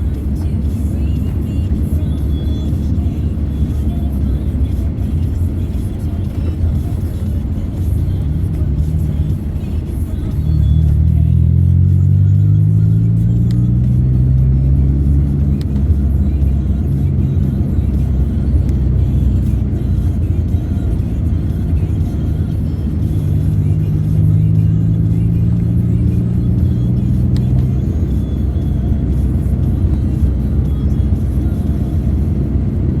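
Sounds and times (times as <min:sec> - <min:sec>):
car engine accelerating: 0:00.0 - 0:33.0
music playing: 0:00.0 - 0:33.0.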